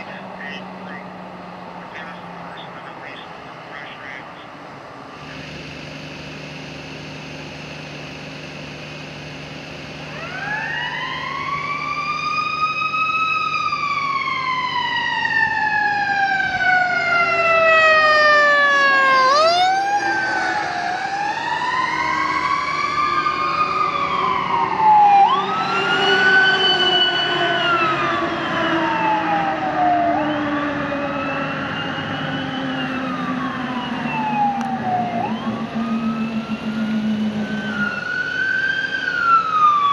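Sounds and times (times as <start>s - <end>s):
emergency siren wailing: 0.0s - 39.9s
vehicle engine drone: 0.0s - 39.9s.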